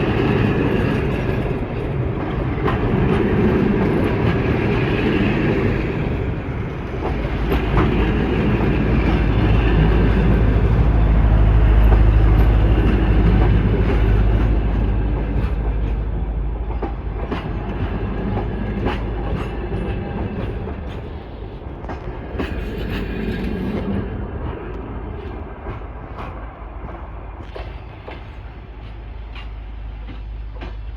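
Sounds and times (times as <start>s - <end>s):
train rumbling past: 0.0s - 30.9s
wheels clicking over rail joints: 0.0s - 30.9s.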